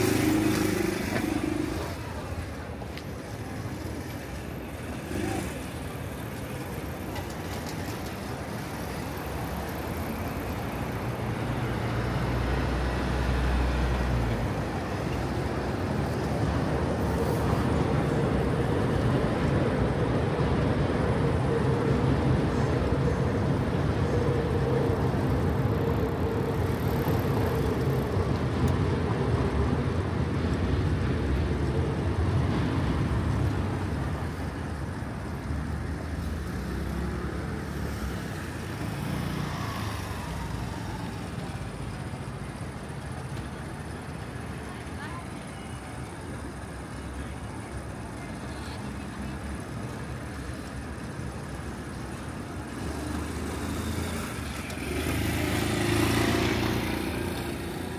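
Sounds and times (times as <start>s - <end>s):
motor vehicles passing: 0.0s - 45.2s, 46.6s - 57.9s.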